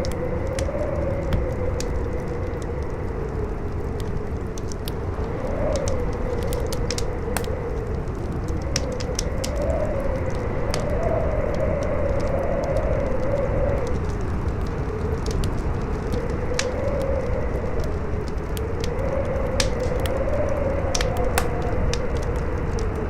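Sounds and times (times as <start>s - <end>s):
campfire crackling and popping: 0.0s - 23.0s
wind howling: 0.0s - 23.0s.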